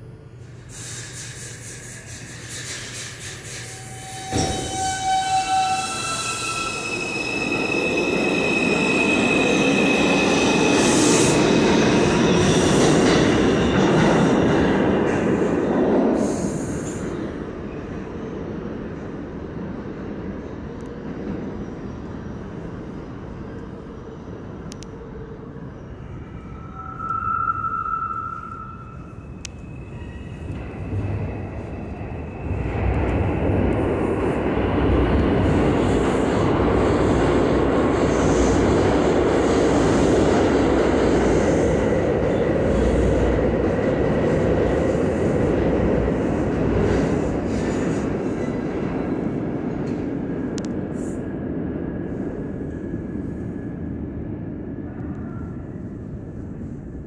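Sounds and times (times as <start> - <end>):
subway train rumble and rail noise: 0.0 - 57.0.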